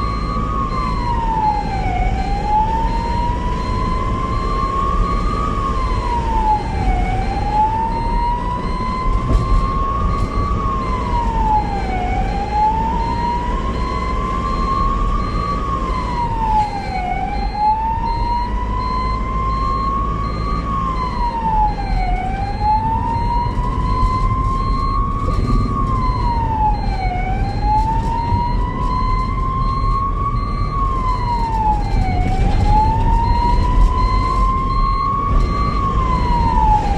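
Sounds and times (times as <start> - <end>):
ambulance siren wailing: 0.0 - 36.9
low road rumble: 0.0 - 36.9.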